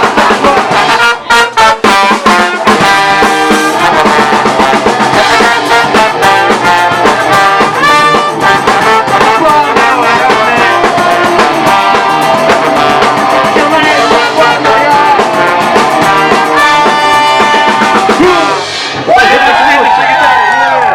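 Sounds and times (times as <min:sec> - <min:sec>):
fast drum beat: 0:00.0 - 0:20.0
band playing acoustic song: 0:00.0 - 0:20.9.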